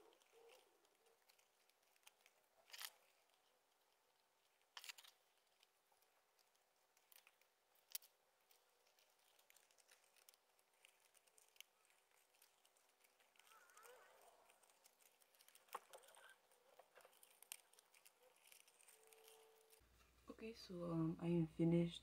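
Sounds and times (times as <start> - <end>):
cardboard pieces rustling and clicking: 0.0 - 19.9.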